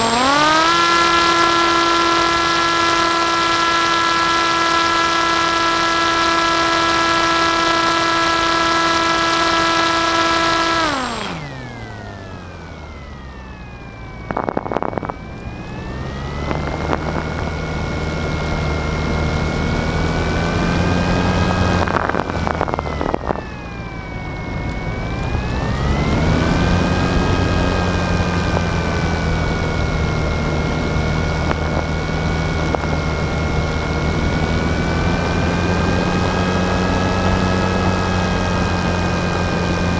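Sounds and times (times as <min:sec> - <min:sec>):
aircraft motor and propeller whine: 0:00.0 - 0:39.9.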